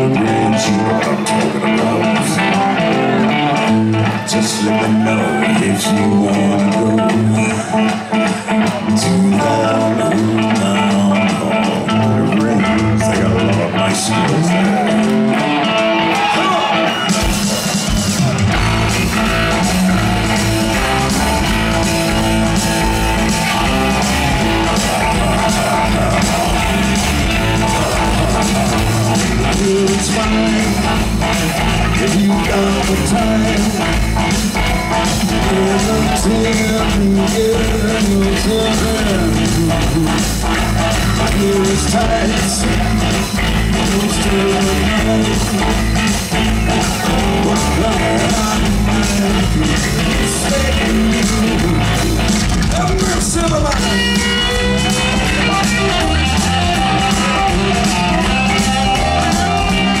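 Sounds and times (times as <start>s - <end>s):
bending lead guitar line: 0.0s - 60.0s
live rock band playing: 0.0s - 60.0s
person singing: 0.0s - 60.0s.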